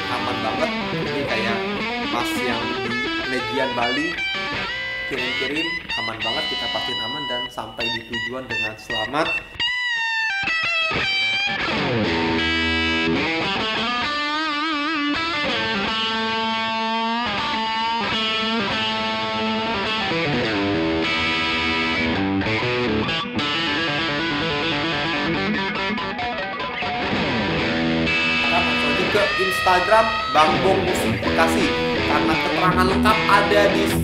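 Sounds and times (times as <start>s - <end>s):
electric guitar lead through amplifier: 0.0s - 34.0s.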